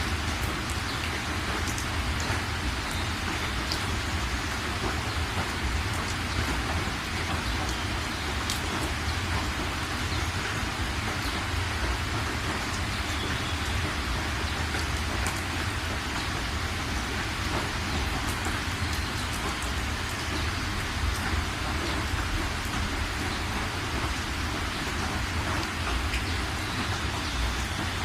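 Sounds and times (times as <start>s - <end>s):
heavy rain falling: 0.0s - 28.0s
sharp drip ticks: 0.1s - 28.0s.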